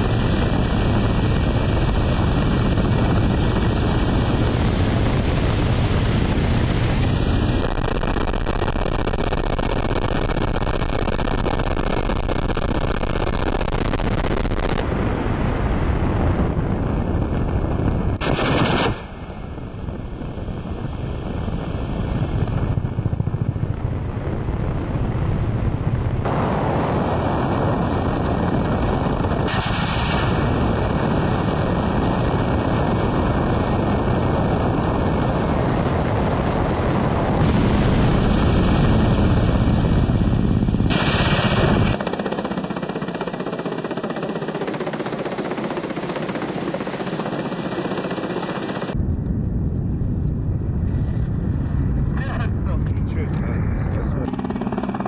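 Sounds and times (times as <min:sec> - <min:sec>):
helicopter rotors and engines: 0:00.0 - 0:55.0
wind noise on microphone: 0:00.0 - 0:55.0.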